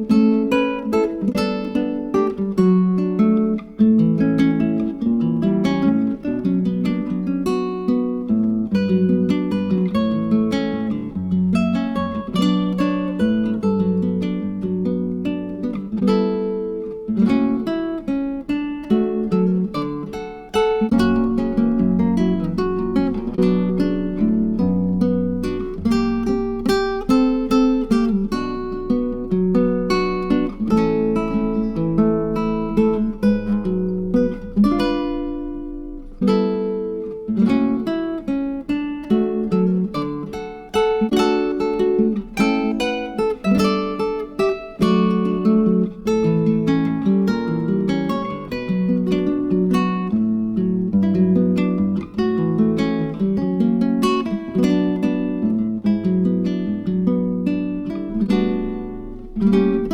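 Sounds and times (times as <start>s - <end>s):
acoustic guitar chords: 0.0s - 59.9s.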